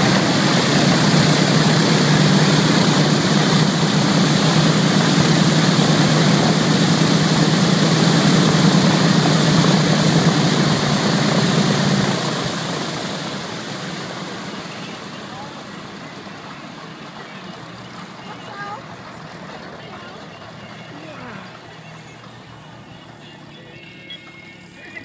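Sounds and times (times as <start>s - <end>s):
radial aircraft engines idling: 0.0s - 25.0s.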